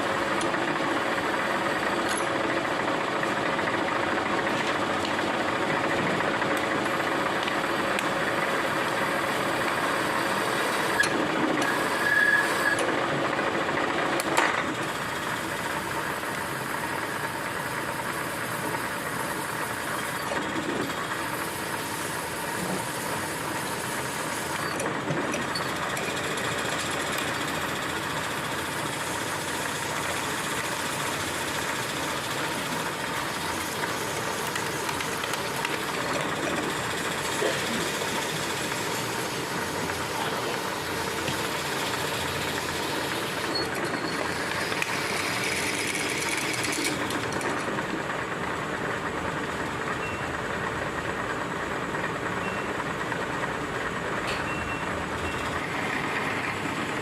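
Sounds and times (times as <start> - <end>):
milling machine running: 0.0 - 57.0.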